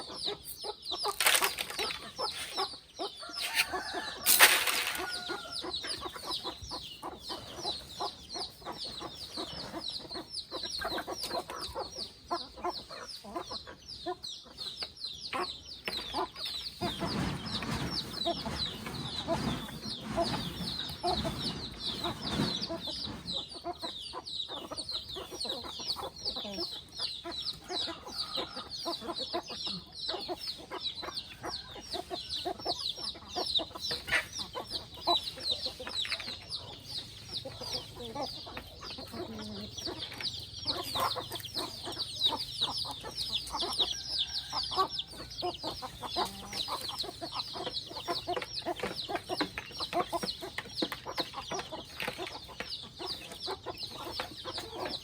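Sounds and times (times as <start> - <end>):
chickens clucking: 0.0 - 55.0
high peeping calls: 0.0 - 55.0.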